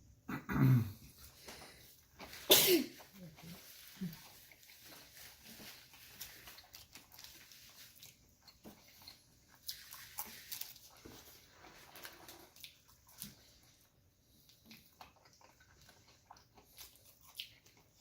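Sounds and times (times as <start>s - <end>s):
chewing with wet mouth smacks: 1.1s - 18.0s.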